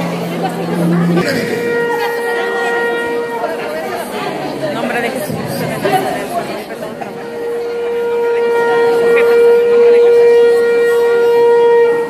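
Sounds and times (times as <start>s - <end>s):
shofar blowing long note: 0.0s - 12.0s.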